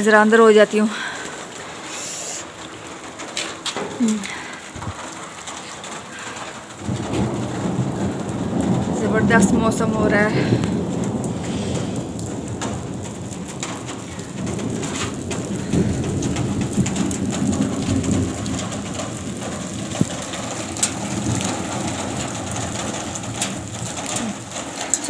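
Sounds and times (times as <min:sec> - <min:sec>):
rain on a concrete roof: 0:00.0 - 0:25.0.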